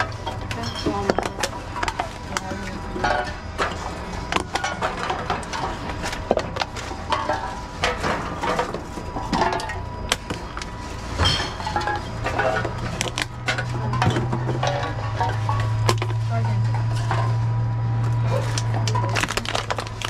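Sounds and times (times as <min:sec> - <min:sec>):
cans and bottles clinking: 0:00.0 - 0:17.4, 0:18.3 - 0:20.0
low steady hum: 0:00.0 - 0:20.0.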